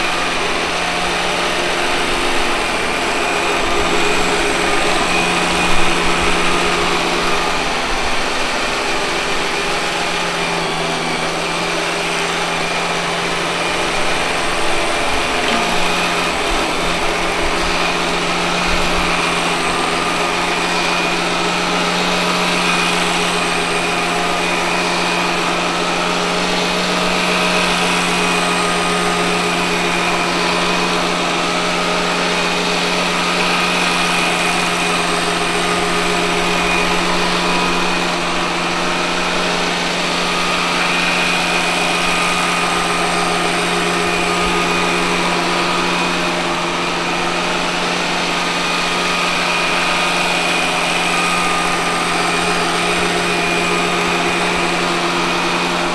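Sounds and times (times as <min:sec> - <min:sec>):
robot vacuum cleaner humming: 0:00.0 - 0:55.9.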